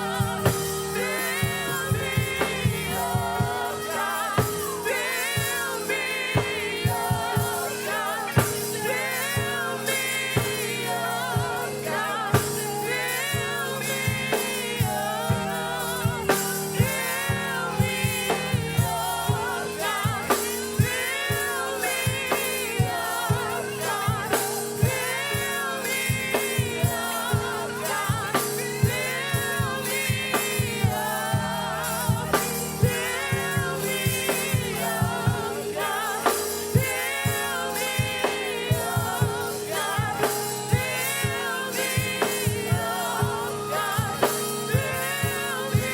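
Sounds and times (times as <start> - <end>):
drum kit beat: 0.0 - 45.9
held organ chord: 0.0 - 45.9
voices singing with vibrato: 0.0 - 45.9.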